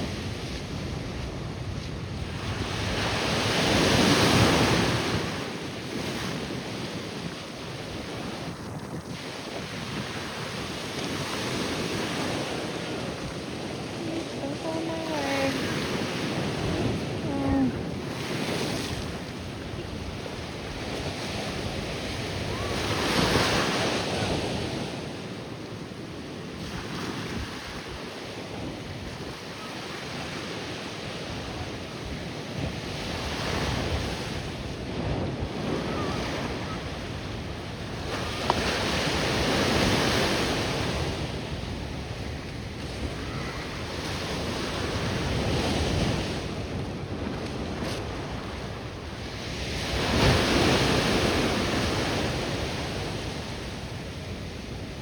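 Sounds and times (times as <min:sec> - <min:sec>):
ocean waves breaking on shore: 0:00.0 - 0:55.0
wind buffeting microphone: 0:00.0 - 0:55.0.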